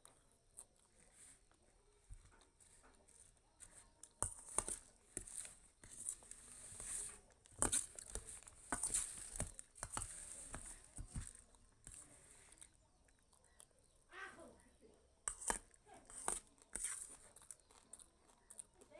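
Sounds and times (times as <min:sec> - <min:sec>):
crunchy eating: 0:00.0 - 0:14.1, 0:15.2 - 0:18.9.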